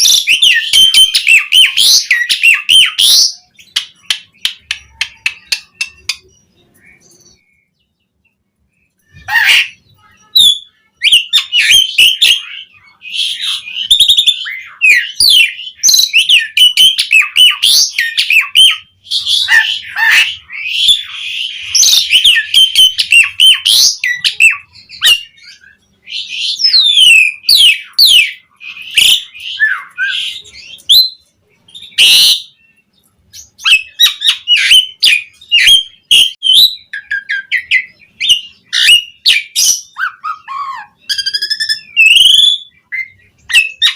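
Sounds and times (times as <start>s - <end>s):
starling singing varied song: 0.0s - 43.9s.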